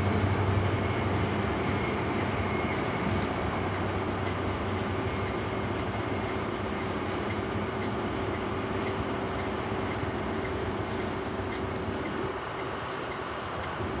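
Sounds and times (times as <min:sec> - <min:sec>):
diesel engine humming: 0:00.0 - 0:14.0
train coaches rolling on rails: 0:00.0 - 0:14.0.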